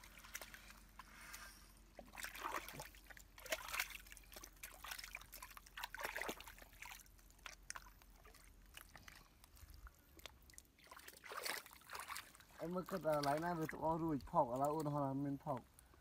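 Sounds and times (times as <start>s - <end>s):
muddy water sloshing: 0.0s - 16.0s.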